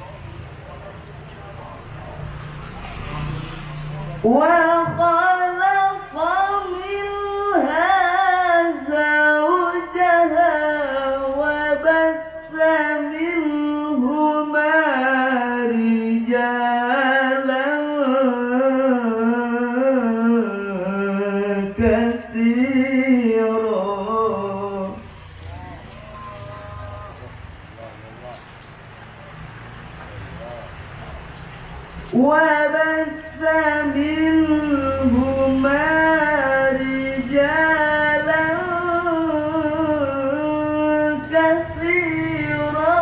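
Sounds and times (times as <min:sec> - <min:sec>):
man reciting melodically: 0:04.1 - 0:28.5, 0:32.1 - 0:43.0.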